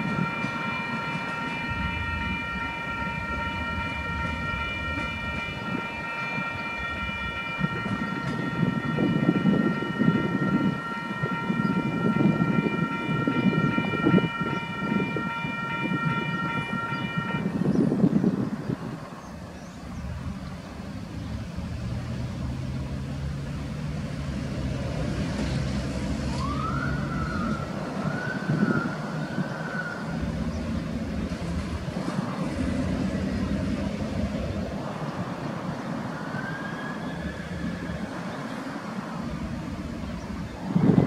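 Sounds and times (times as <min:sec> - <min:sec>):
vehicle engine and tyre noise: 0:00.0 - 0:41.0.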